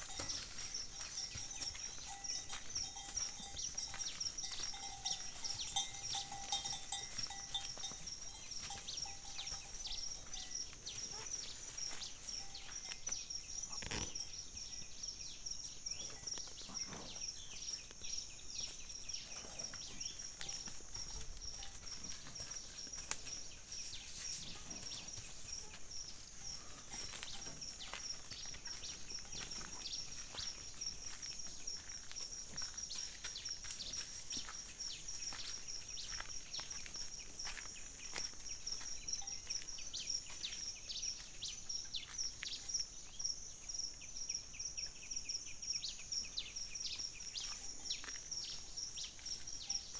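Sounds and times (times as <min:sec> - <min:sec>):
birds chirping: 0:00.0 - 0:49.9
high-pitched insect trill: 0:00.0 - 0:49.9.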